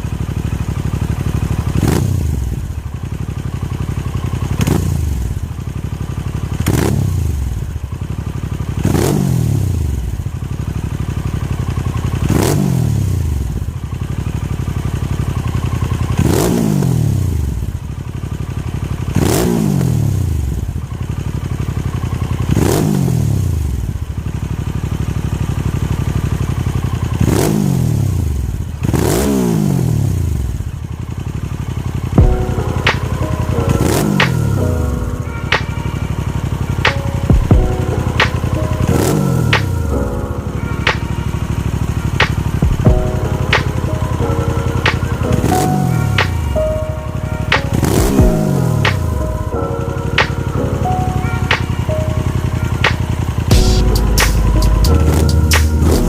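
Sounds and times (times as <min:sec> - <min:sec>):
motorcycle engine revving: 0:00.0 - 0:49.2, 0:51.2 - 0:56.0.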